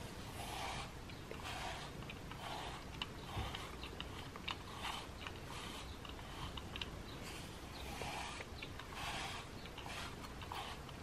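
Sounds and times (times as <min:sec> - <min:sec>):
brush rasping through fur: 0:00.1 - 0:11.0.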